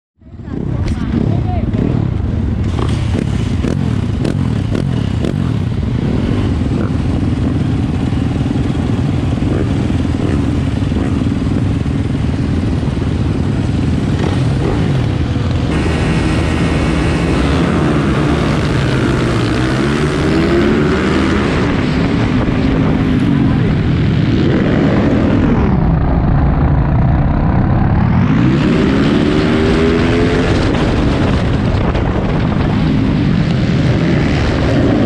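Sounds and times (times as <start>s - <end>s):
motorcycle engine revving: 0.2s - 35.0s
other motorcycles: 0.2s - 35.0s.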